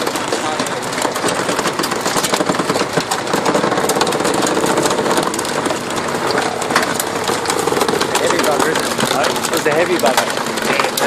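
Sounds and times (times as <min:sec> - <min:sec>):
engine running steadily: 0:00.0 - 0:11.0
machinery crushing furniture clatter: 0:00.0 - 0:11.0.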